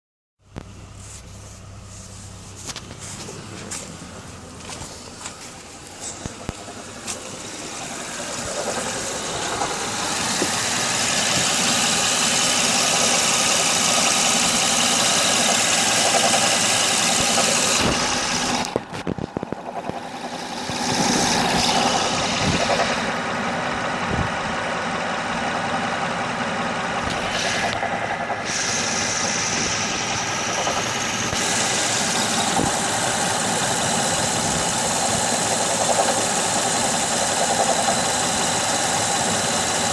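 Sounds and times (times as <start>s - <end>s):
car engine running with a knock: 2.5s - 39.9s.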